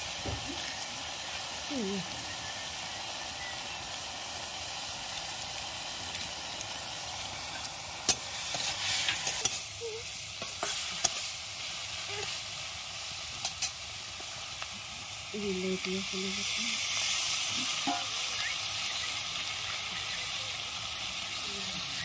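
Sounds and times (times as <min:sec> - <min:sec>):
shrimp sizzling in oil: 0:00.0 - 0:22.0.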